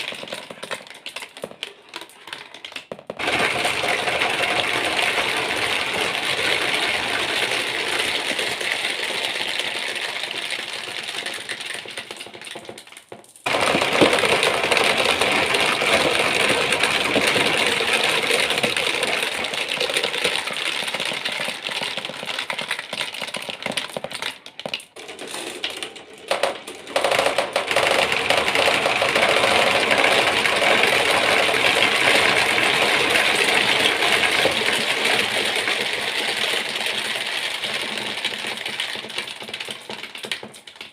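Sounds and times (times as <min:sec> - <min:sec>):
marbles rattling along tracks: 0:00.0 - 0:40.9.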